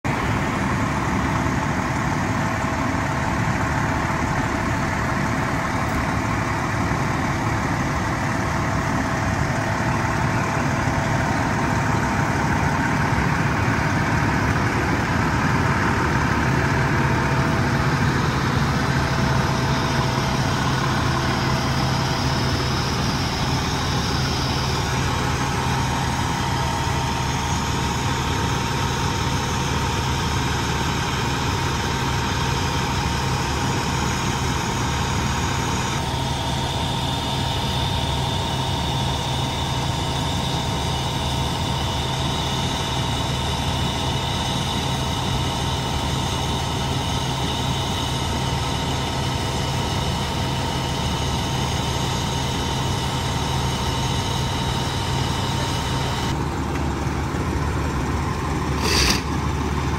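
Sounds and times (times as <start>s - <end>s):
deep steady hum: 0.0s - 59.9s
diesel engines idling: 0.0s - 59.9s.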